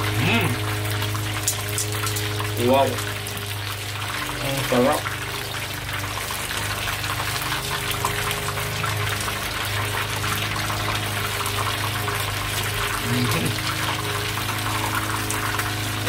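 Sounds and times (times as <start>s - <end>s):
deep-frying sizzle and crackle: 0.0s - 16.0s
low hum: 0.0s - 16.0s.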